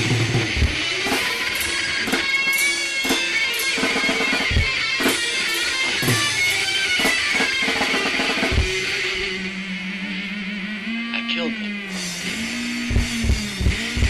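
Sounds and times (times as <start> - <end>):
drum beat: 0.0 - 9.4, 12.0 - 14.0
electric guitar: 0.0 - 14.0.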